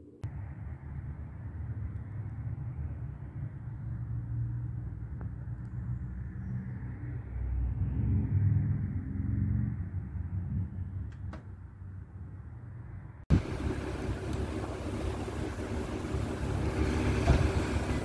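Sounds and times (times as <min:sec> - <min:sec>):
distant road traffic rumble: 0:00.2 - 0:18.0
vehicle passing: 0:00.3 - 0:18.0.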